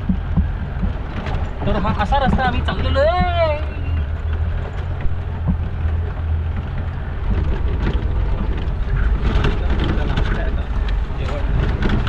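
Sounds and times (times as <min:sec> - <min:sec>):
knocks and rattles from bumps: 0:00.0 - 0:12.0
low engine hum: 0:00.0 - 0:12.0.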